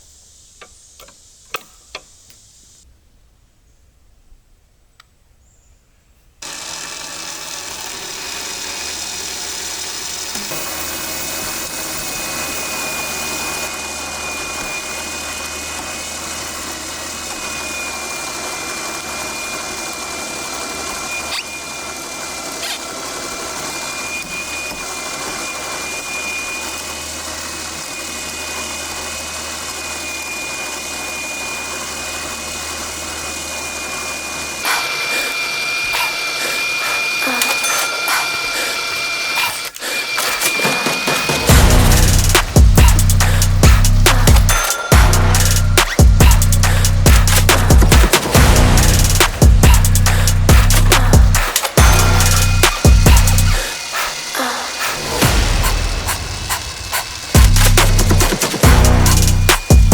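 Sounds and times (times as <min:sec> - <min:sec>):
power tool whining: 0:06.4 - 0:59.9.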